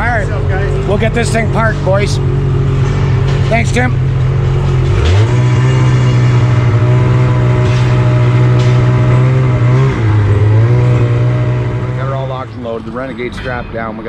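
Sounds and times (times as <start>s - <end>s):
vehicle engine with exhaust: 0.0s - 14.0s.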